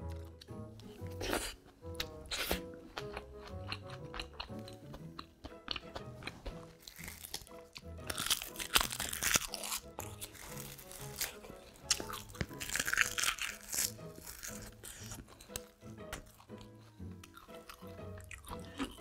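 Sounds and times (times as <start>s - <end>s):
crunching and chewing food: 0.0s - 19.0s
soft background music: 0.0s - 19.0s.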